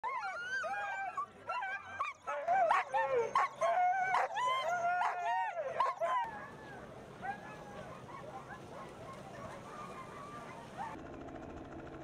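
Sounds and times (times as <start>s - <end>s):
sled dogs howling and yipping: 0.0s - 11.0s.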